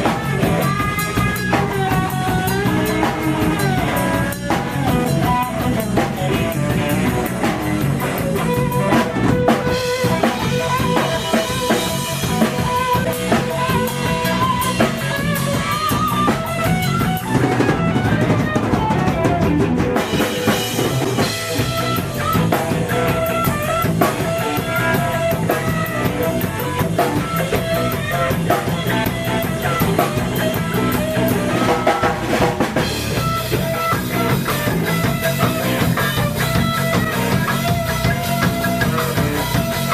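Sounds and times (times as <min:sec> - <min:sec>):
drum kit: 0:00.0 - 0:39.9
guitar playing: 0:00.0 - 0:39.9.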